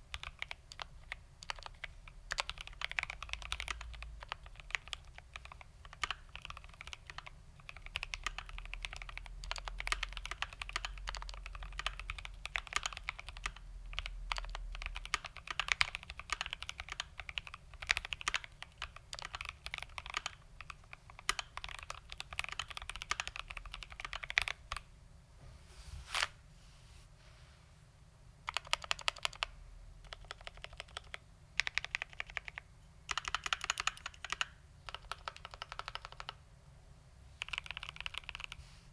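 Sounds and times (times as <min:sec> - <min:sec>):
mechanical keyboard typing: 0:00.0 - 0:24.8, 0:28.4 - 0:36.4, 0:37.4 - 0:38.6.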